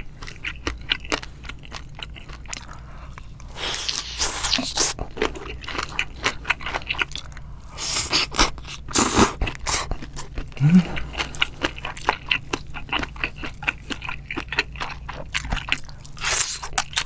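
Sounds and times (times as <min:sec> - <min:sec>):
wet chewing and biting: 0:00.0 - 0:17.0.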